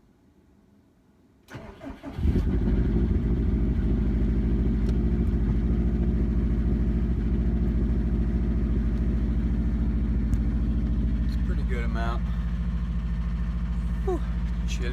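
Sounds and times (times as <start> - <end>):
car engine idling: 1.6 - 14.9.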